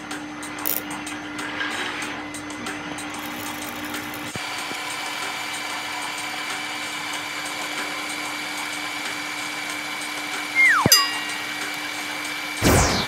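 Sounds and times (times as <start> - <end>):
metal lathe humming and whining: 1.2 - 12.6.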